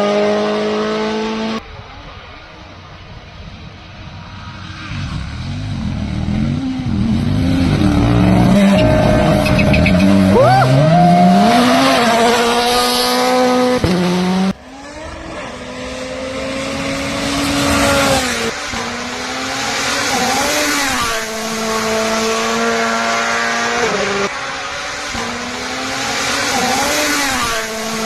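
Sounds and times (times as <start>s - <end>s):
car revving through gears: 0.0s - 1.6s, 4.8s - 28.0s
rally car engines at full throttle: 0.0s - 28.0s.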